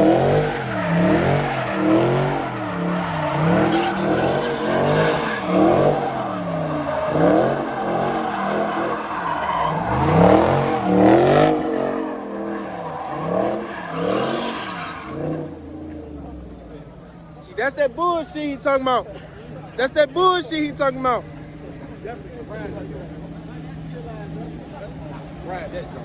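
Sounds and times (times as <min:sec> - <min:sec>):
car engine revving: 0:00.0 - 0:26.0
tire squeal: 0:00.0 - 0:26.0.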